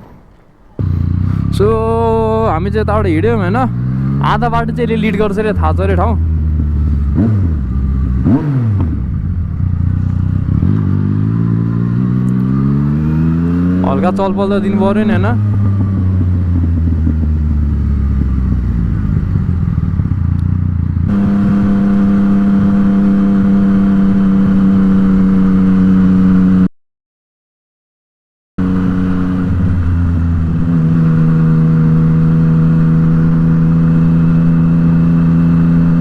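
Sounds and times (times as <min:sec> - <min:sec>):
motorcycle engine cruising: 0:00.2 - 0:26.7, 0:28.6 - 0:36.0.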